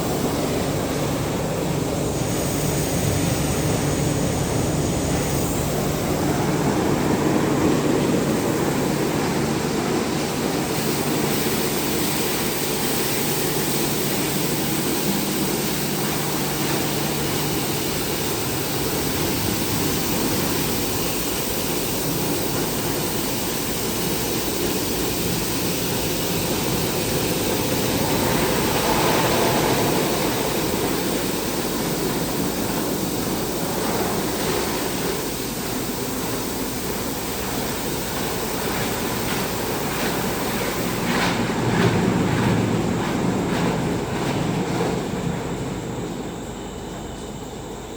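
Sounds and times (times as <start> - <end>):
car wash water spraying: 0.0 - 44.3.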